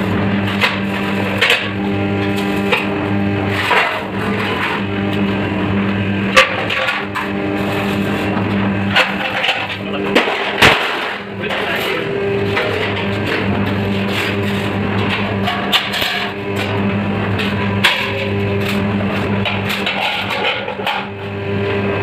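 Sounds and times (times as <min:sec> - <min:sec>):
hydraulic press hum: 0:00.0 - 0:22.0.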